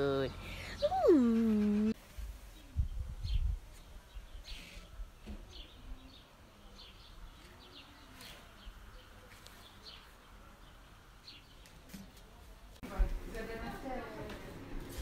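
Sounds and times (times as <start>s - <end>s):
birds chirping faintly: 0.0s - 12.5s.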